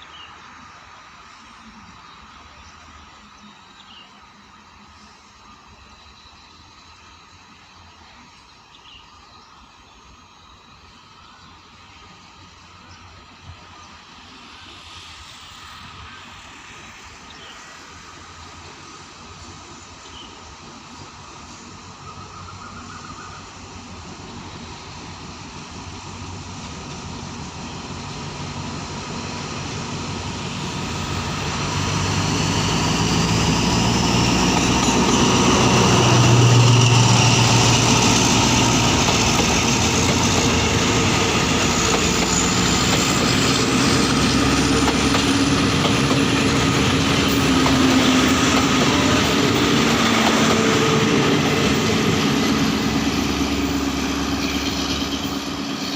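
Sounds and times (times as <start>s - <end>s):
diesel locomotive engine: 0.0s - 55.9s.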